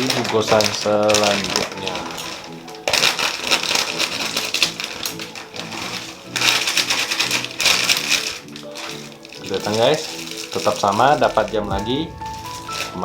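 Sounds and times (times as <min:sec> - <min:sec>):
plastic snack packet crinkling: 0:00.0 - 0:13.0.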